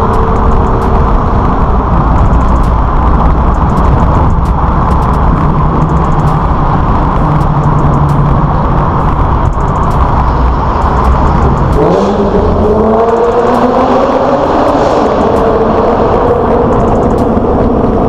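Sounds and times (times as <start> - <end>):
car engine cruising in underpass: 0.0 - 18.0.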